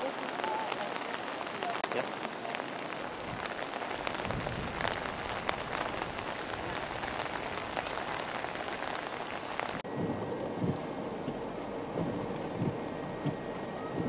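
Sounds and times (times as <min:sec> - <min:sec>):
raindrops tapping close by: 0:00.0 - 0:14.0
steady rain falling: 0:00.0 - 0:14.0.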